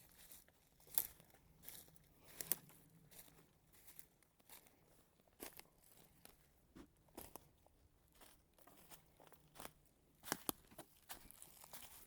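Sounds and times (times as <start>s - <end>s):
footsteps crunching on trail: 0.0s - 12.0s.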